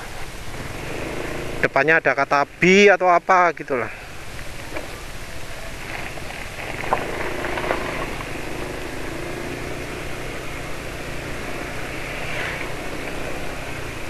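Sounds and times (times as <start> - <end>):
road noise: 0.0 - 14.0
scooter engine running: 0.1 - 2.0, 3.9 - 14.0.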